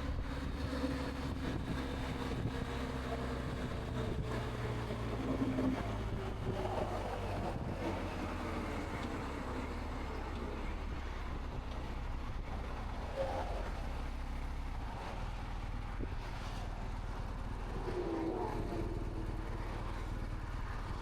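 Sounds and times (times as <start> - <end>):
motorcycle engine droning: 0.0 - 21.0.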